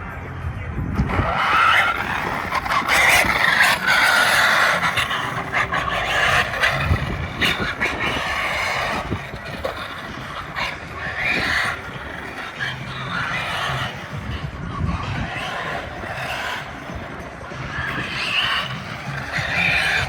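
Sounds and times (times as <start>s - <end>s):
electric motor whine: 0.9s - 20.0s
tyres scrabbling: 0.9s - 20.0s.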